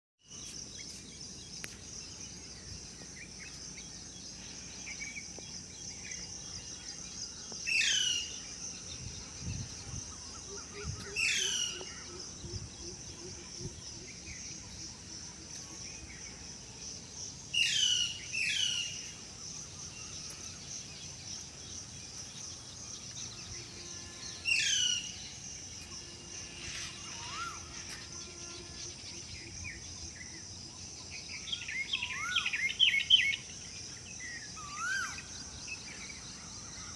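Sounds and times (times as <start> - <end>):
high insect drone: 0.2 - 36.9.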